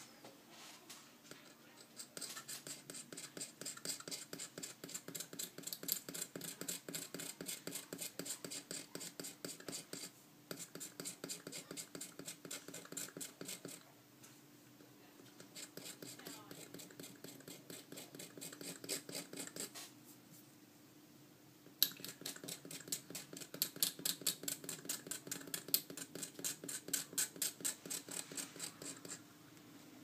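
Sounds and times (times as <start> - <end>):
knife scraping circuit board: 1.4 - 13.8, 15.4 - 19.8, 21.8 - 29.2.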